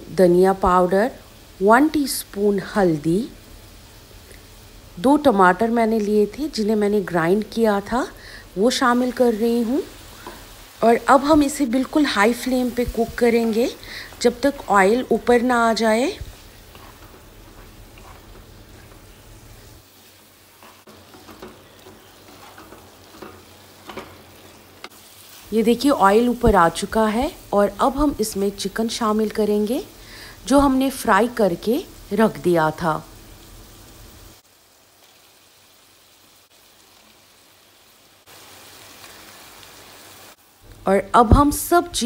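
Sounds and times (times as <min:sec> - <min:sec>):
food sizzling in clay pot: 0:00.0 - 0:42.0.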